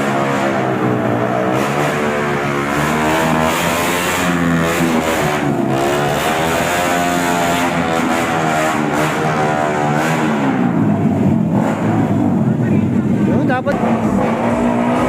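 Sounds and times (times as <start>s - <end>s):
engine revving with loud exhaust: 0.0s - 15.0s.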